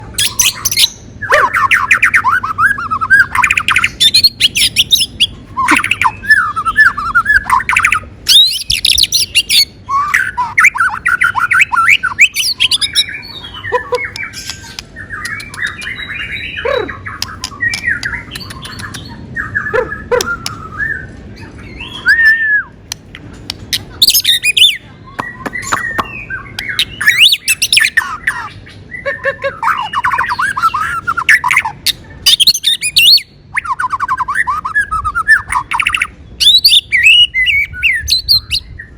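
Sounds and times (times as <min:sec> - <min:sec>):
bird chirping and squawking: 0:00.0 - 0:38.9.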